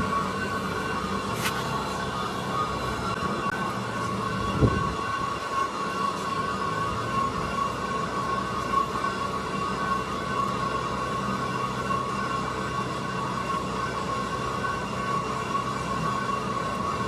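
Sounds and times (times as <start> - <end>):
factory machinery whining: 0.0 - 17.0.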